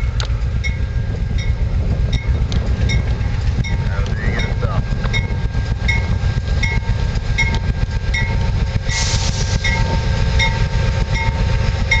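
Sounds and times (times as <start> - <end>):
machinery rumbling: 0.0 - 12.0.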